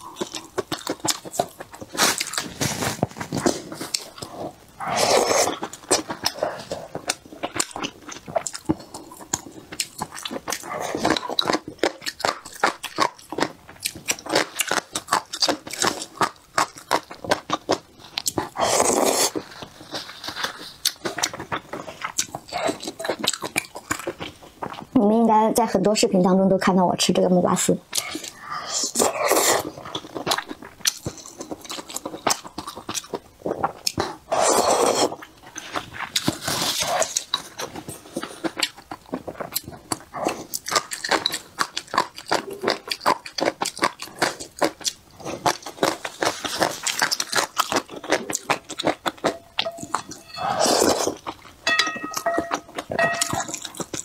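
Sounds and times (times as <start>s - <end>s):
wet chewing and smacking: 0.0s - 25.0s, 27.8s - 54.0s.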